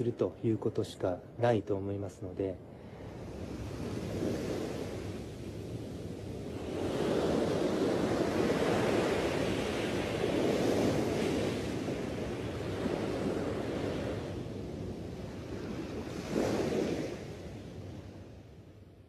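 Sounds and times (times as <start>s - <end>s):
sea surf washing in: 0.0s - 18.5s.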